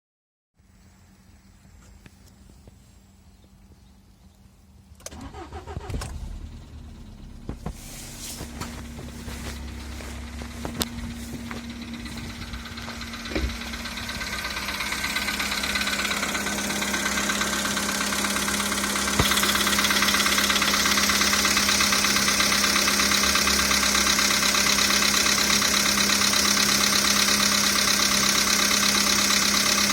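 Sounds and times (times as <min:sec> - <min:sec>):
engine idling with knock: 0:05.6 - 0:29.9.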